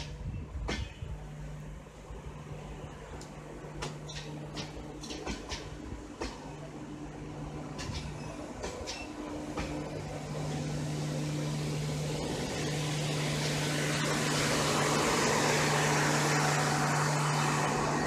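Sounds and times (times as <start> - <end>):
broad rushing noise: 0.0 - 18.0
steady low hum: 0.0 - 18.0
train coaches rolling past: 0.0 - 18.0.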